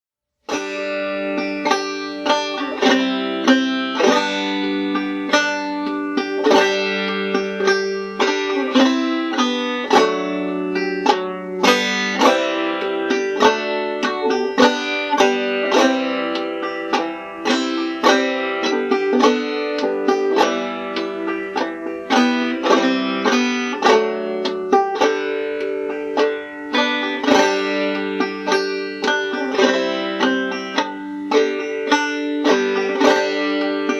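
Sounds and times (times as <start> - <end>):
banjo playing slow tune: 0.4 - 33.9.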